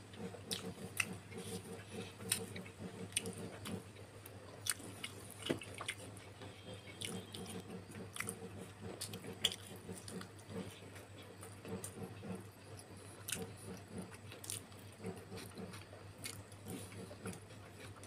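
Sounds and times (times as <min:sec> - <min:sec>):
chewing and biting food: 0:00.0 - 0:18.0.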